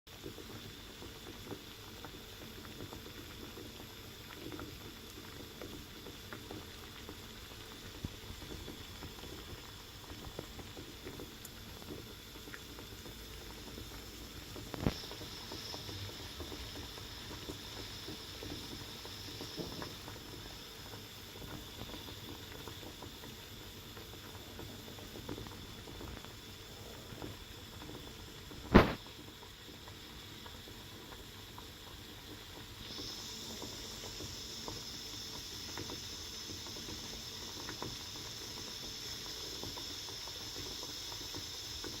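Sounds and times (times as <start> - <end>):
water boiling: 0.1 - 42.0
high hiss: 5.5 - 42.0.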